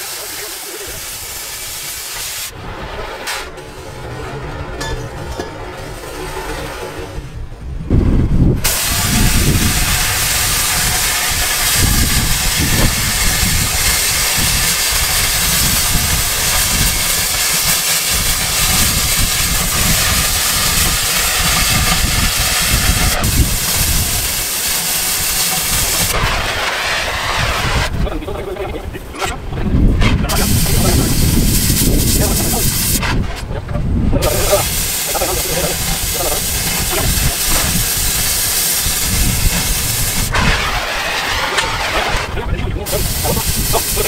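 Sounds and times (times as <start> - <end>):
cutting torch hissing: 0.0 - 7.4, 8.5 - 44.0.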